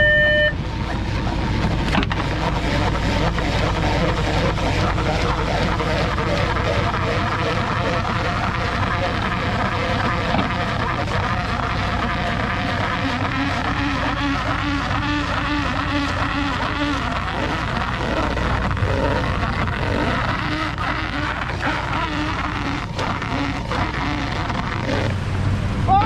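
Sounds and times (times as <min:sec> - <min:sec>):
boat engine low hum: 0:00.0 - 0:26.0
pot hauler pulsing whine: 0:00.0 - 0:26.0.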